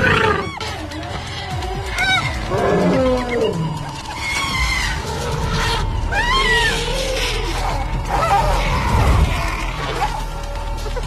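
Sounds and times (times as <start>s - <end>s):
animal squeals: 0.0s - 11.0s
background music: 0.0s - 11.0s.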